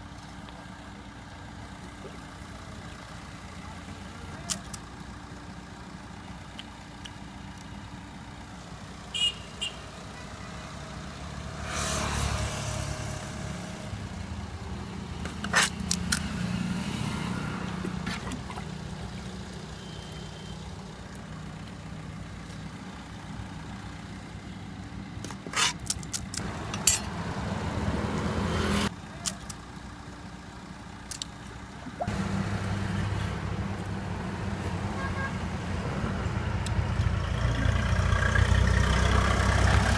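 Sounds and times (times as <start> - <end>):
traffic engine hum: 0.0 - 39.9.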